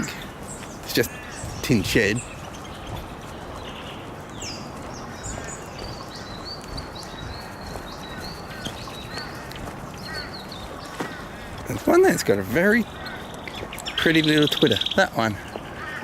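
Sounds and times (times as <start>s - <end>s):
background hiss: 0.0s - 16.0s
small birds chirping: 0.0s - 16.0s.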